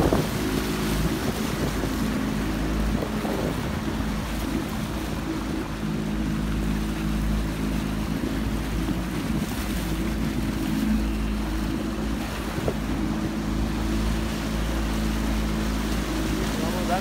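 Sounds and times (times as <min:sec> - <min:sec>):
boat motor running: 0:00.0 - 0:17.0
wind rumbling on microphone: 0:00.0 - 0:17.0.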